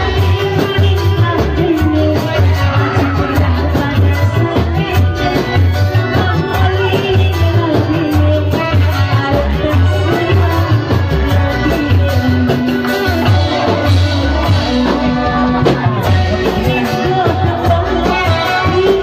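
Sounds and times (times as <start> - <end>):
folk instruments over loudspeakers: 0.0 - 19.0
steady drum beat: 0.0 - 19.0
woman singing into microphone: 0.0 - 19.0.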